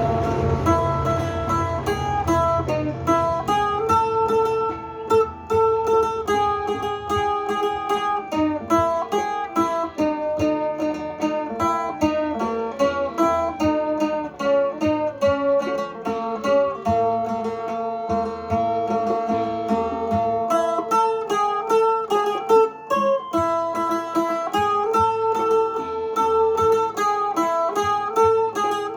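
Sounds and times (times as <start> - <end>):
plucked lute melody: 0.0 - 28.9.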